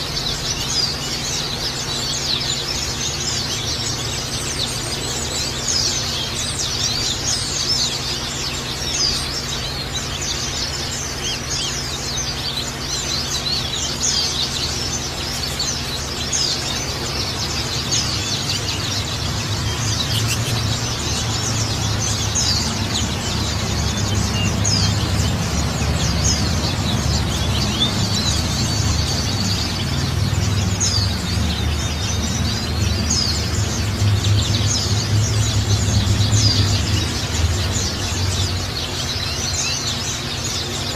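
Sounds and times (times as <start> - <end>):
birds twittering: 0.0 - 40.9.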